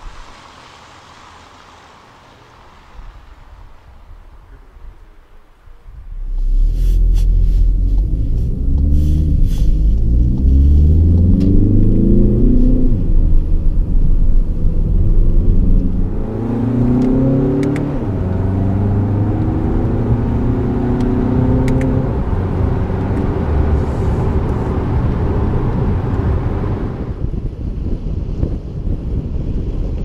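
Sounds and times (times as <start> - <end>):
diesel engine accelerating: 0.0 - 27.6.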